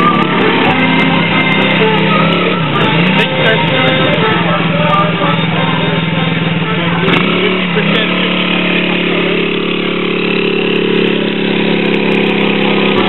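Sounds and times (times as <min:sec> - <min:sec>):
small quad engine running: 0:00.0 - 0:13.0.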